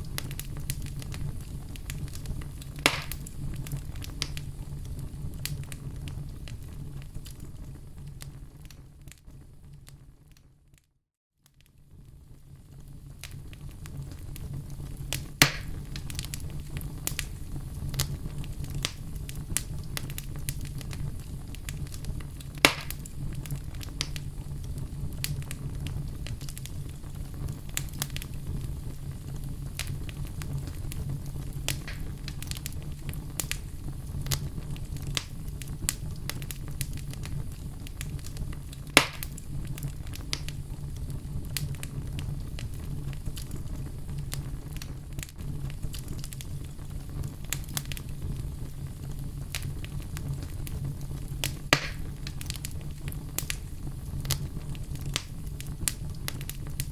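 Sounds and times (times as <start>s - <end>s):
loud fire pops: 0.0s - 10.3s, 11.9s - 56.9s
wood fire crackling: 0.0s - 10.8s, 11.4s - 56.9s.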